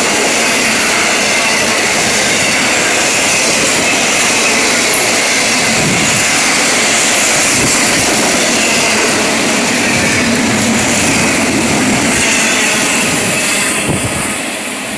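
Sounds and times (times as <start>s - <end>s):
steel train wheels on rails: 0.0s - 14.9s.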